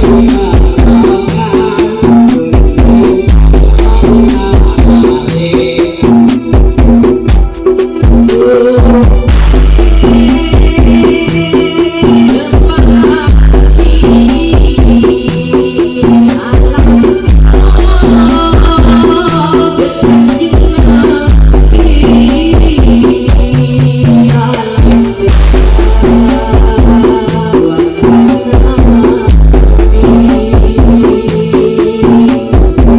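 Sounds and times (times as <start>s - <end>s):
loud dance music: 0.0s - 32.9s.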